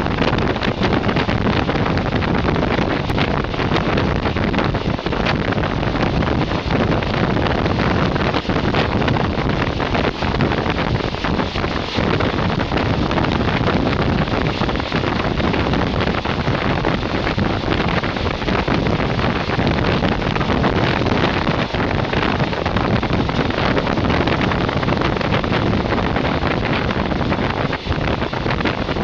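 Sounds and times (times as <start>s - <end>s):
train running noise: 0.0s - 29.0s
wind rushing over microphone: 0.0s - 29.0s.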